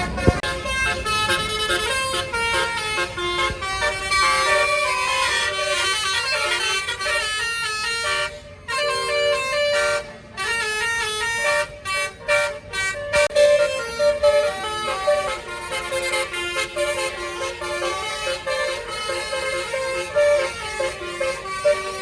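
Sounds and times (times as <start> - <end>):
multi-tone bus air horn: 0.0 - 22.0.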